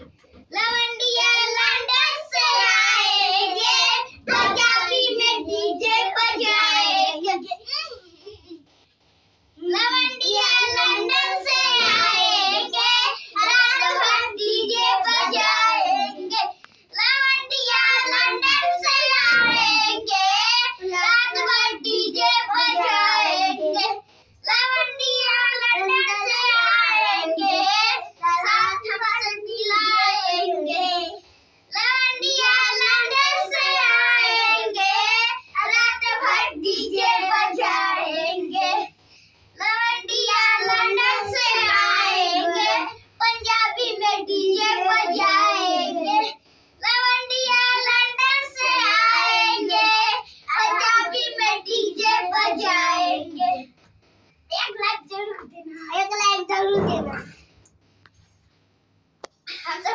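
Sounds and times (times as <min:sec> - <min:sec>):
children singing: 0:00.0 - 0:07.4, 0:09.6 - 0:24.0, 0:24.6 - 0:31.2, 0:31.8 - 0:39.0, 0:39.6 - 0:53.5.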